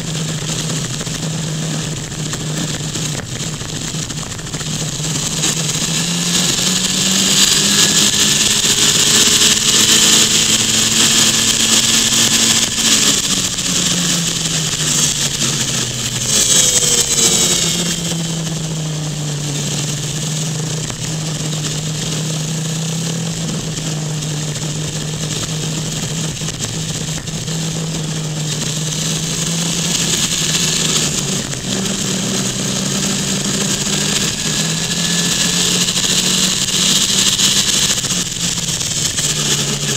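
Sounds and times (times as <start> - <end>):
vehicle engine running: 0.0 - 39.9
wind and road noise: 0.0 - 39.9.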